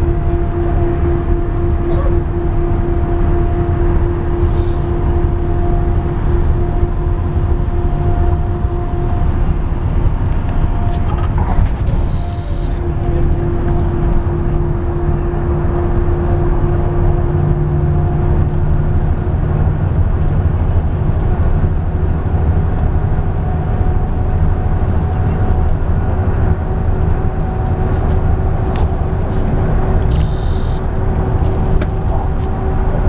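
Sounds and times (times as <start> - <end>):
steady hum: 0.0 - 22.5, 23.1 - 33.0
bus engine and road rumble: 0.0 - 33.0.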